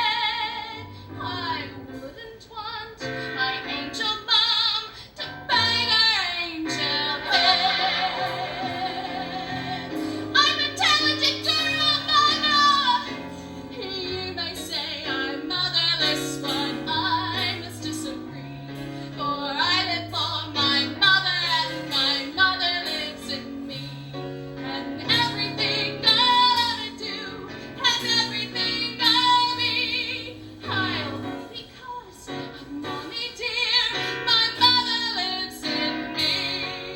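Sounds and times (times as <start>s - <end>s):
women singing with vibrato: 0.0s - 36.9s
sustained keyboard chords: 5.4s - 36.9s.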